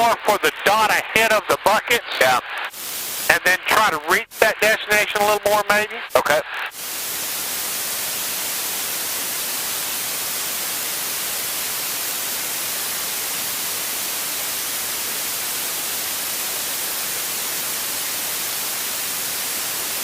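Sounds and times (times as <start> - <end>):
static hiss: 0.0 - 20.0.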